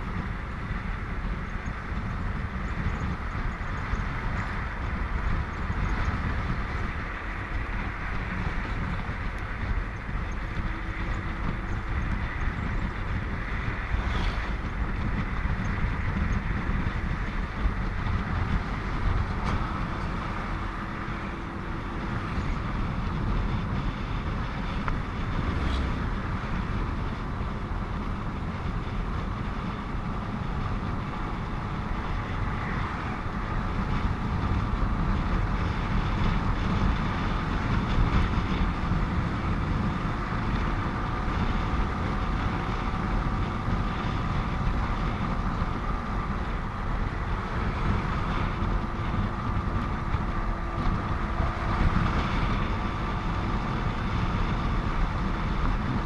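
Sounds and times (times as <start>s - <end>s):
motorcycle engine and road rumble: 0.0s - 56.0s
wind rush on microphone: 0.0s - 56.0s.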